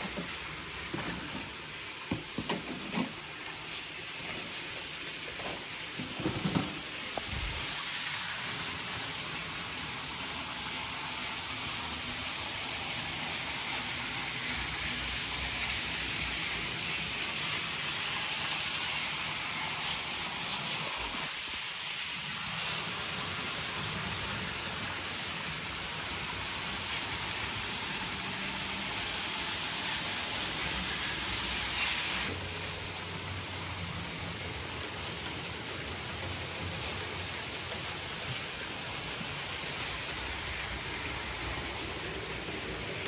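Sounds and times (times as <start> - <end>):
model train running hiss: 0.0 - 43.0.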